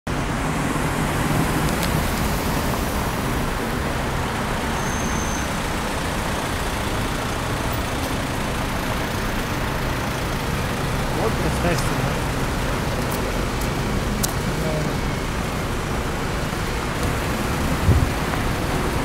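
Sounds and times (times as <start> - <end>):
cars passing: 0.1 - 19.0
city bus passing: 0.1 - 19.0.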